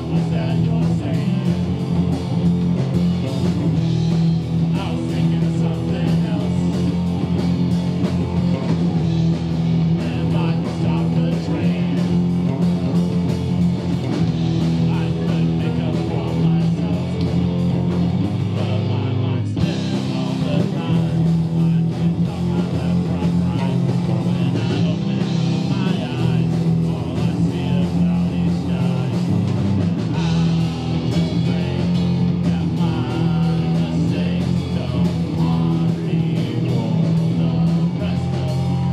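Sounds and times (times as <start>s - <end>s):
bass line: 0.0s - 38.9s
drum kit beat: 0.0s - 38.9s
electric guitar: 0.0s - 38.9s.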